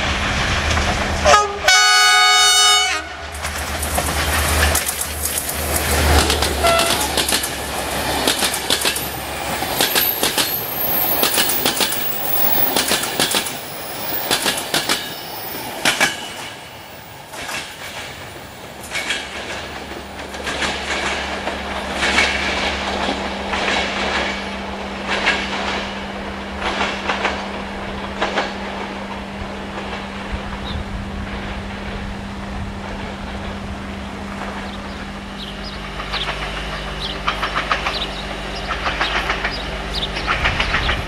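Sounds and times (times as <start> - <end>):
train wheels clicking over rail joints: 3.2 - 32.0, 32.8 - 41.0.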